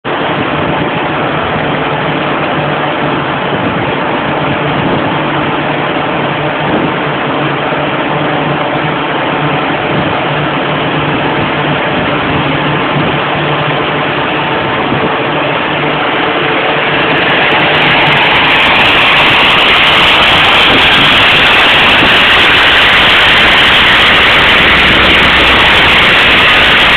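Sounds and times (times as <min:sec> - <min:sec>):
car engine under load: 0:00.0 - 0:26.9
tyres humming on rollers: 0:00.1 - 0:26.9.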